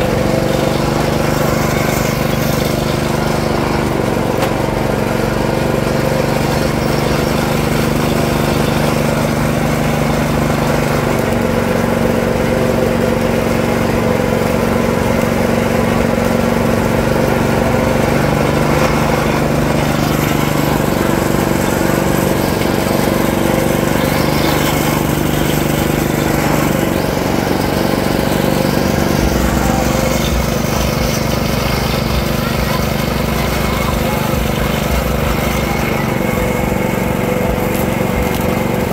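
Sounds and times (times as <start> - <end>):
juice press motor humming: 0.0 - 38.9
rollers crushing cane stalks: 0.0 - 38.9.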